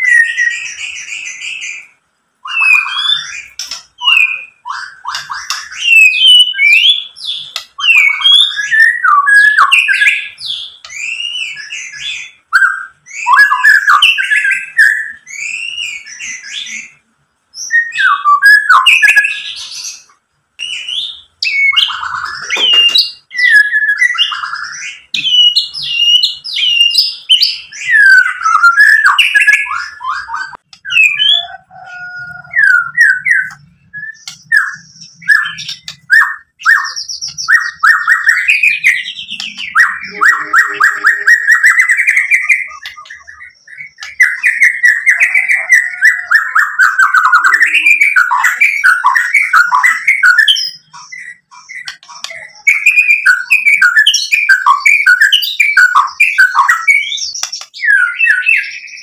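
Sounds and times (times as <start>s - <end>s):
bird singing whistled phrases: 0.0s - 17.0s, 17.6s - 59.0s.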